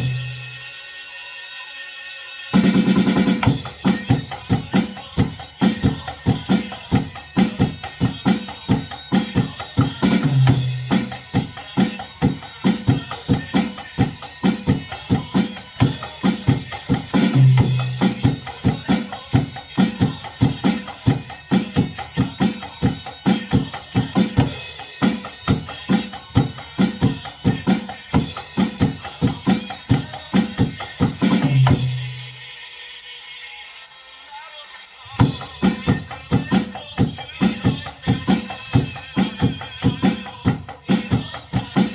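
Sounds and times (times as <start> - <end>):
drum kit beat: 0.0 - 0.9, 2.5 - 32.6, 35.0 - 41.9
song playing: 0.0 - 41.9.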